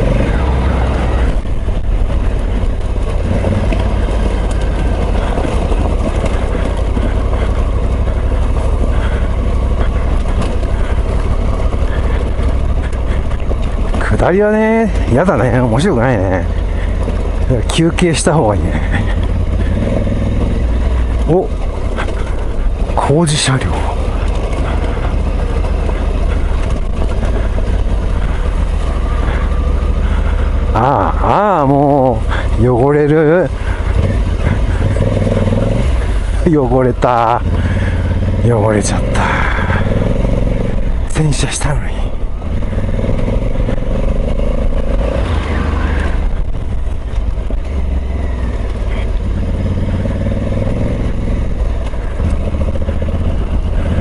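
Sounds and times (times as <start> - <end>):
motorcycle engine running steadily: 0.0 - 54.0
tyres on gravel: 0.0 - 54.0.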